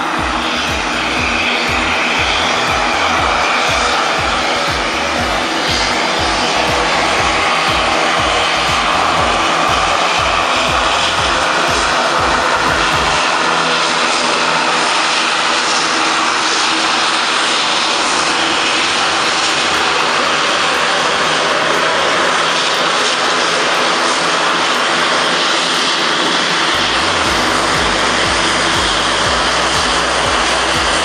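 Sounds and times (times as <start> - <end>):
turboprop engines droning: 0.0 - 31.0.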